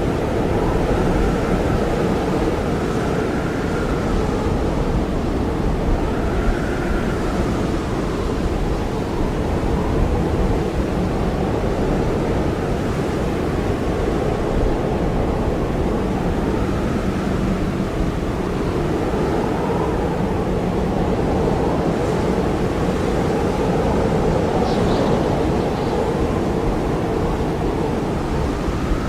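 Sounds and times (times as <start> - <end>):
blizzard wind whistling: 0.0 - 29.0.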